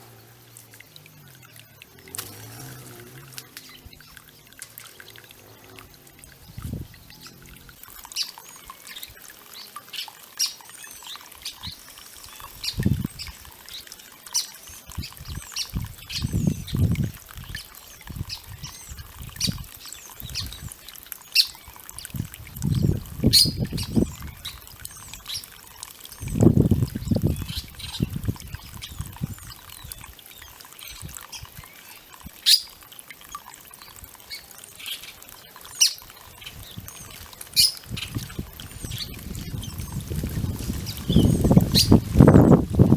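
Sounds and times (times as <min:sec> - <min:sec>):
birds splashing in water: 0:00.0 - 0:42.9
small birds chirping: 0:00.0 - 0:42.9.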